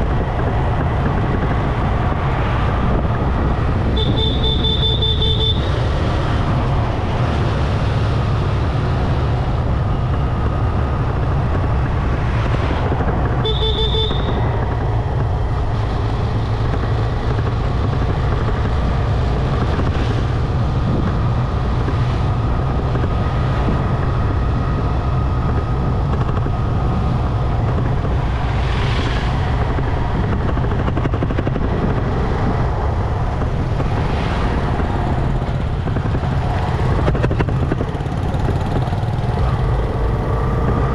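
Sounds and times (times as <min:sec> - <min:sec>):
wind buffeting: 0:00.0 - 0:04.1, 0:05.6 - 0:13.4, 0:14.3 - 0:40.9
motorcycle engine running: 0:00.0 - 0:40.9
road noise: 0:00.0 - 0:40.9.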